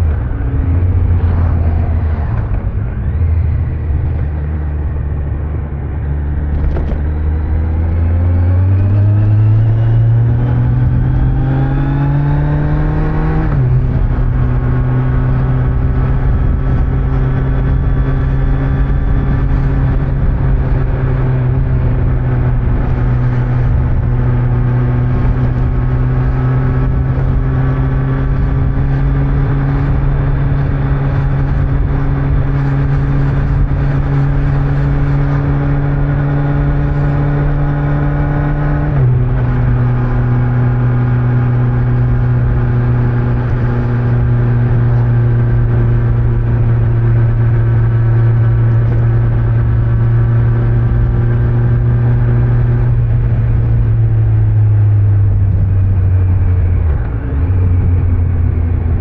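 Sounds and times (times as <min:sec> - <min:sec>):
wind and road noise: 0:00.0 - 0:59.0
motorcycle engine under way: 0:02.2 - 0:59.0.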